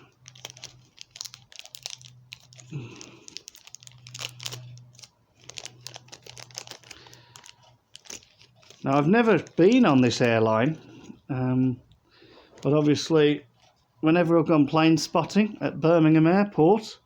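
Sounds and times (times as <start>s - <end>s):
plastic packaging crinkling: 0.0s - 13.9s
faint low hum: 0.0s - 17.0s.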